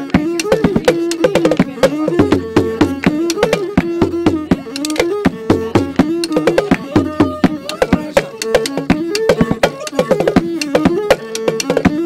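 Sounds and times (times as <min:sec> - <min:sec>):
music with fast drum beat: 0:00.0 - 0:12.0.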